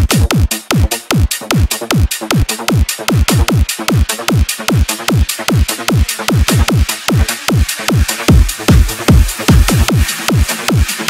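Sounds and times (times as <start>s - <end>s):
electronic dance track: 0.0s - 11.0s
rapid kick drums: 0.0s - 11.0s.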